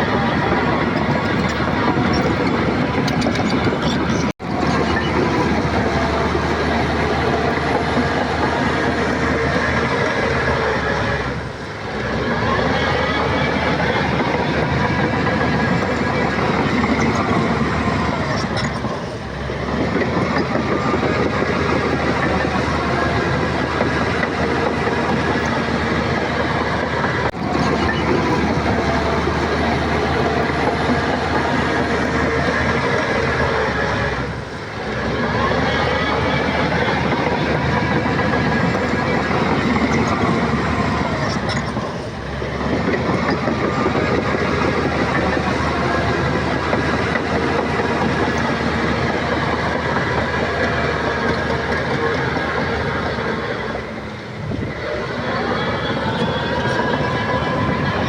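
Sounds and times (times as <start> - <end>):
clatter of steel tracks: 0.0 - 58.0
diesel engine under load: 0.0 - 58.0.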